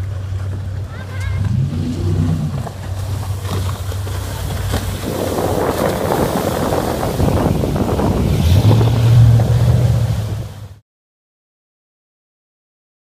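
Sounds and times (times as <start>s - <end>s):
hull and spray rushing: 0.0s - 10.8s
powerboat engine drone: 0.0s - 10.8s.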